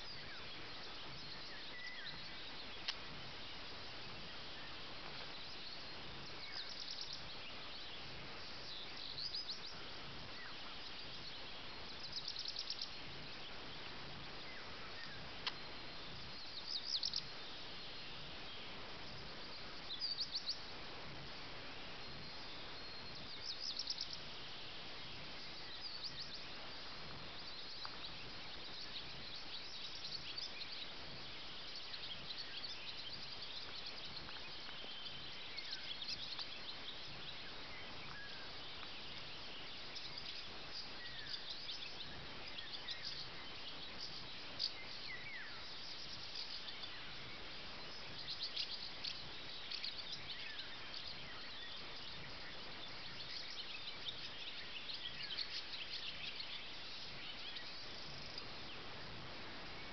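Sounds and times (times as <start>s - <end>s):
birds chirping and singing: 0.0s - 21.2s, 21.8s - 58.9s
faint hiss: 0.0s - 59.9s.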